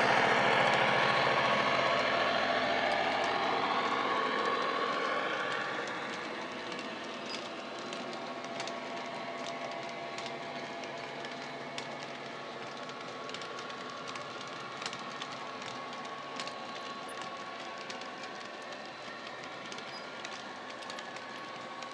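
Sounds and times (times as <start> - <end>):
model diesel engine drone: 0.0 - 21.9
model wagon wheels clicking on track: 0.0 - 21.9.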